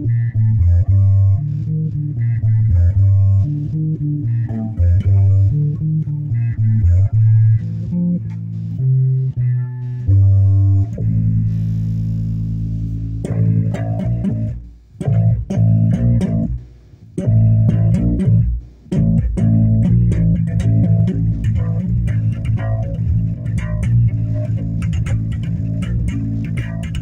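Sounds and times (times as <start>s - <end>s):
bass guitar plucked notes: 0.0s - 27.0s.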